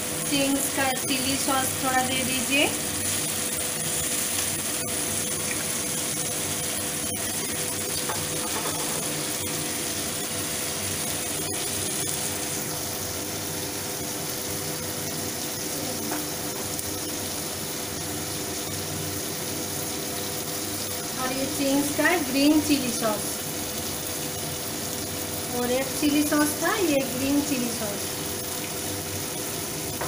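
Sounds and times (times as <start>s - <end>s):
vegetables sizzling in a pan: 0.0s - 30.0s.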